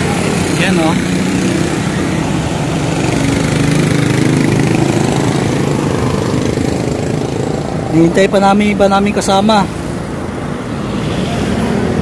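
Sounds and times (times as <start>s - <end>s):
vehicle engines passing: 0.0s - 12.0s.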